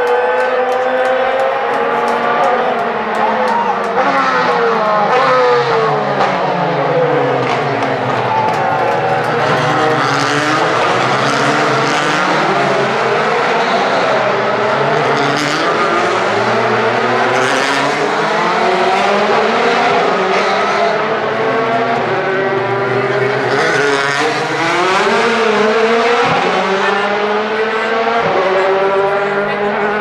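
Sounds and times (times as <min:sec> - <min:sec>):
racing car engines revving: 0:00.0 - 0:30.0.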